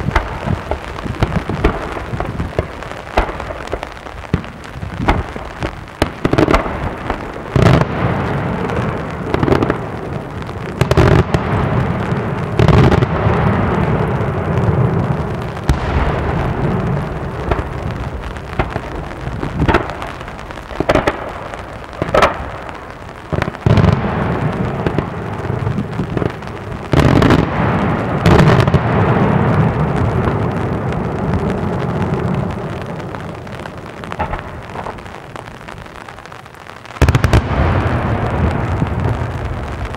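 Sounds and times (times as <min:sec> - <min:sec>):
rumble and crackle of fireworks: 0:00.0 - 0:39.9.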